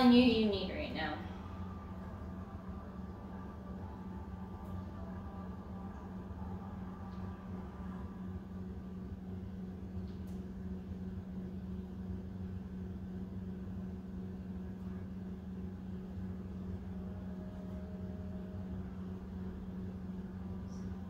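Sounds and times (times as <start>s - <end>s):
steady tonal hum: 0.0s - 21.0s.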